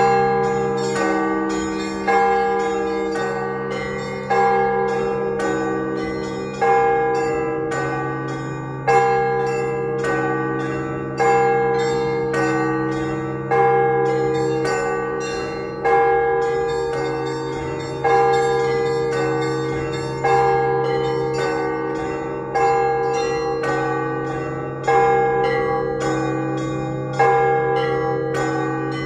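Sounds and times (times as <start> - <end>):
deep bell hum: 0.0 - 29.0
higher bells struck: 0.0 - 29.0
loud church bell strokes: 0.0 - 29.0.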